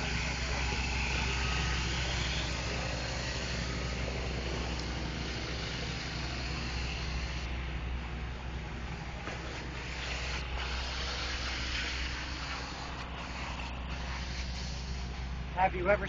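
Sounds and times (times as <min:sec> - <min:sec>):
engine running steadily: 0:00.0 - 0:16.0
outdoor background noise: 0:00.0 - 0:16.0.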